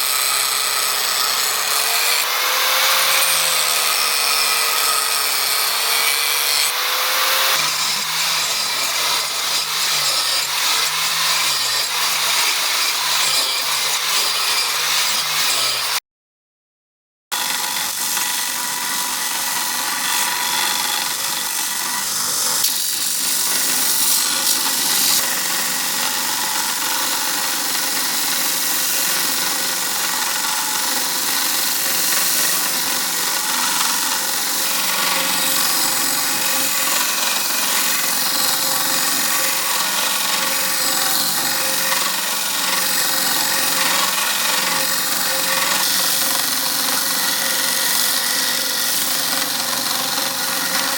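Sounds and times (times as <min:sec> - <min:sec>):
power tool grinding: 0:00.0 - 0:16.0, 0:17.3 - 0:50.9.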